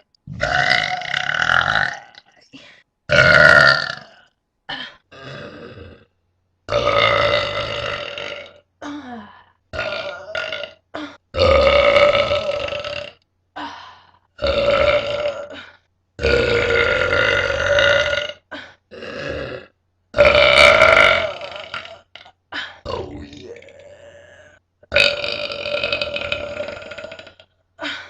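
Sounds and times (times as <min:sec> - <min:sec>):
person burping: 0:00.3 - 0:02.4, 0:03.1 - 0:06.1, 0:06.7 - 0:09.0, 0:09.7 - 0:13.2, 0:14.4 - 0:28.0.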